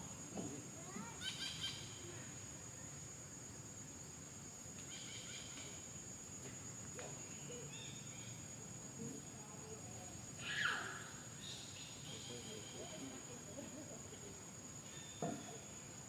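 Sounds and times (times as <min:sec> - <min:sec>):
short insect chirps: 0:00.0 - 0:16.0.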